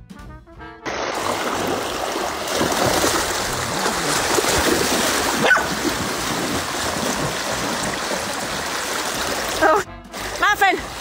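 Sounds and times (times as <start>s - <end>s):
stream water rushing: 0.9s - 11.0s.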